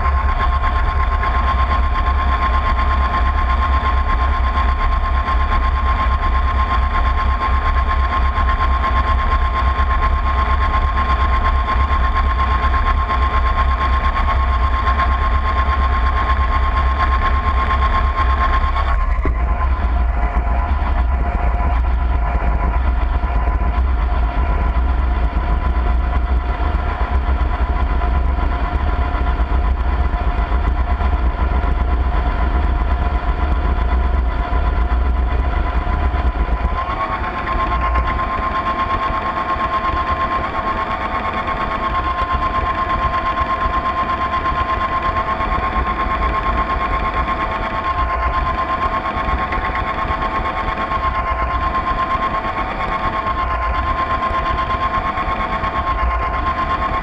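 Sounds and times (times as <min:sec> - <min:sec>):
model boat motor whine: 0:00.0 - 0:57.0.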